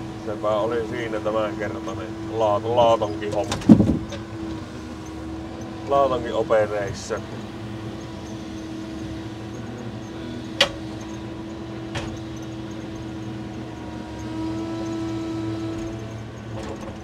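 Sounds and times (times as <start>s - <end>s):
hydraulic crane humming: 0.0s - 17.0s.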